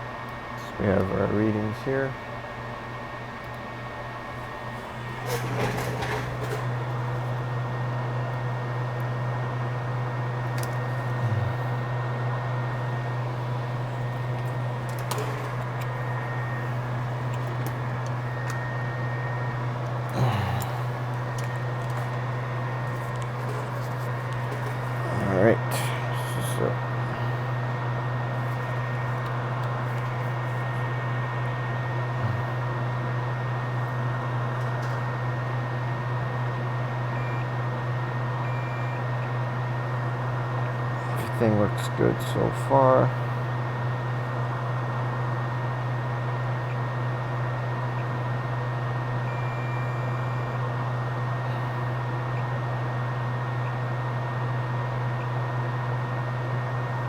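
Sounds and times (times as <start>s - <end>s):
fan-like drone: 0.0s - 57.0s
low electrical hum: 0.0s - 57.0s.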